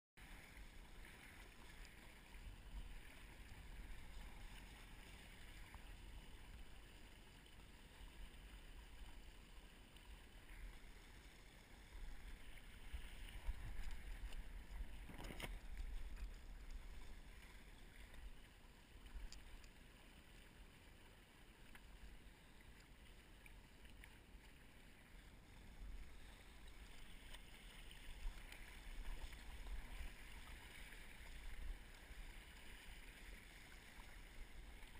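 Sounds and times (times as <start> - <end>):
rush of water and wind: 0.2 - 34.9.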